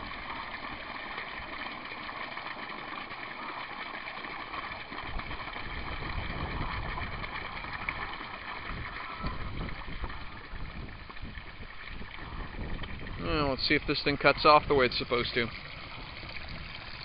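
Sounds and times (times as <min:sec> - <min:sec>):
water pouring into plastic tub: 0:00.0 - 0:17.0.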